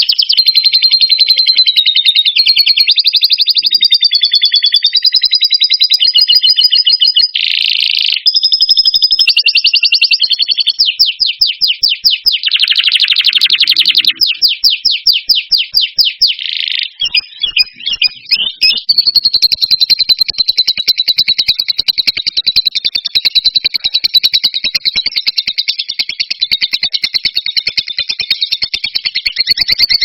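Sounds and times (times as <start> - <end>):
songbird singing trills: 0.0 - 30.0.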